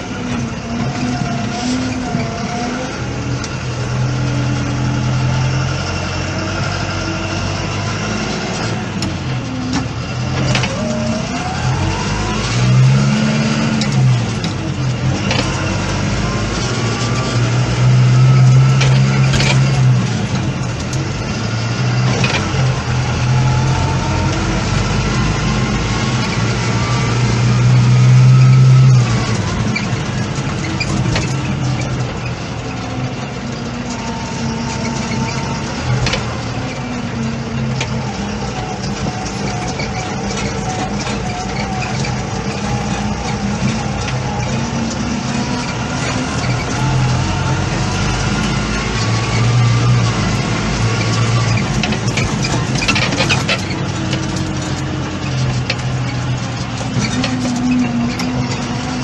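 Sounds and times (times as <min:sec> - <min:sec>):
diesel engines under load: 0:00.0 - 0:59.0.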